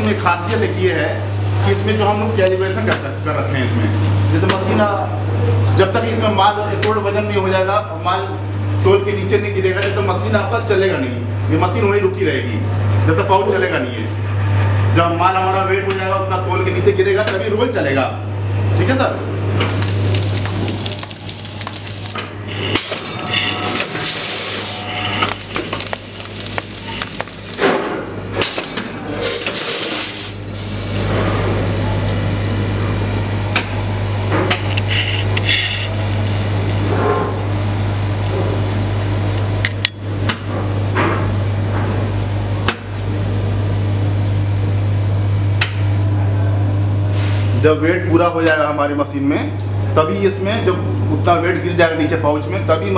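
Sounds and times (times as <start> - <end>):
vibratory feeders humming: 0.0 - 29.7, 30.3 - 52.9.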